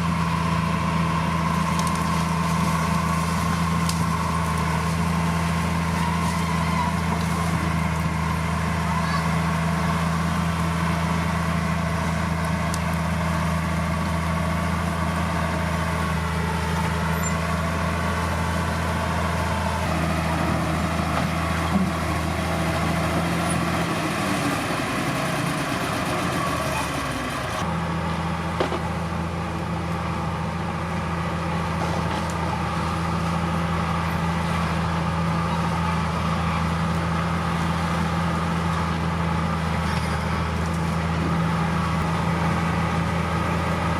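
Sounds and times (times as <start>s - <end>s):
diesel machinery engine hum: 0.0s - 43.9s.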